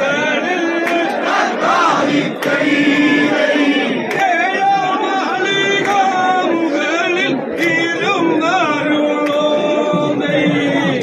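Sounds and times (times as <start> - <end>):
men singing boat song: 0.0 - 11.0.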